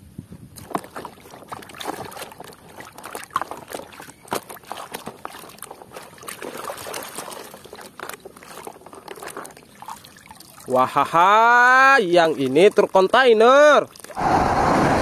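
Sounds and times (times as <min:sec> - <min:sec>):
water sloshing in a basin: 0:00.5 - 0:14.2.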